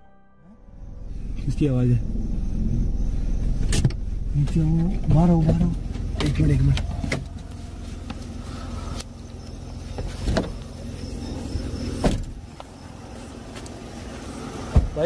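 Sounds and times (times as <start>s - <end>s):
car driving rumble: 0.5s - 15.0s.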